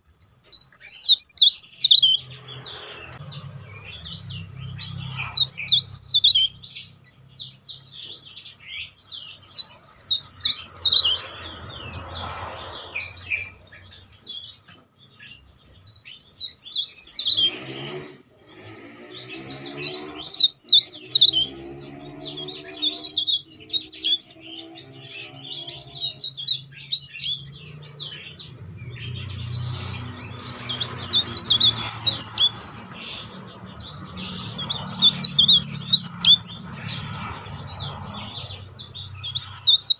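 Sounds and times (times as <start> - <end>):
bird twittering shrilly: 0.0 - 39.9.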